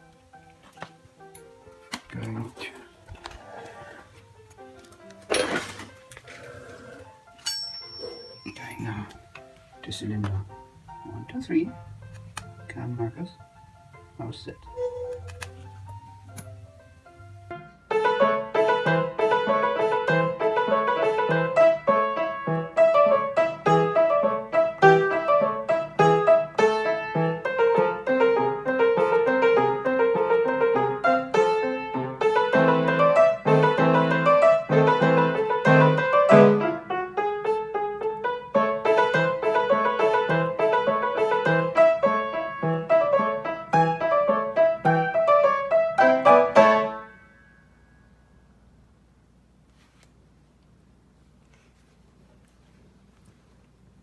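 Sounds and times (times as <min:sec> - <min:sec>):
piano music: 0:00.0 - 0:47.8.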